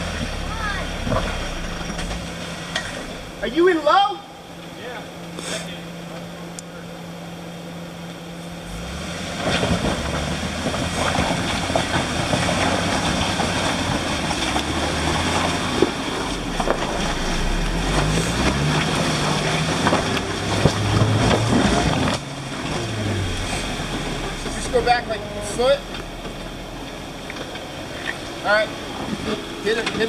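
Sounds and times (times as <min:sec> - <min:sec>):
tires knocking on rock: 0:00.0 - 0:03.7, 0:09.3 - 0:30.0
engine revving under load: 0:00.0 - 0:04.0, 0:08.4 - 0:30.0.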